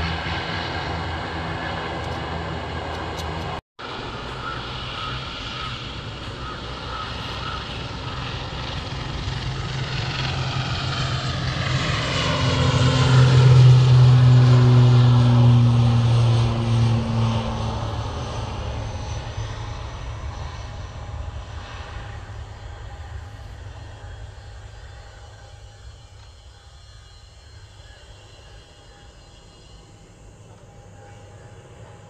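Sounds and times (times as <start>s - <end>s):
turboprop airliner passing: 0.0s - 32.0s.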